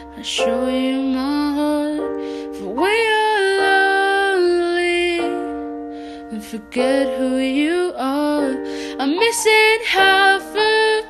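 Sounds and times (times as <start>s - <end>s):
person singing: 0.0s - 11.0s
piano chords: 0.0s - 11.0s
pop ballad: 0.0s - 11.0s.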